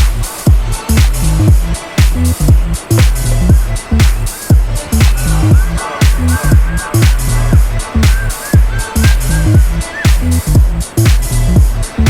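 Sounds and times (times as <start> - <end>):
deep bassline: 0.0 - 12.0
electronic dance music: 0.0 - 12.0
heavy kick drum: 0.0 - 12.0.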